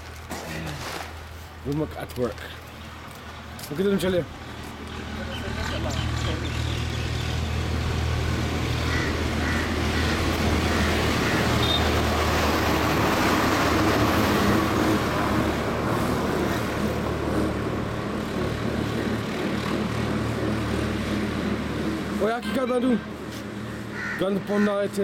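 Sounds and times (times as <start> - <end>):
vehicle engine passing: 3.8 - 24.0.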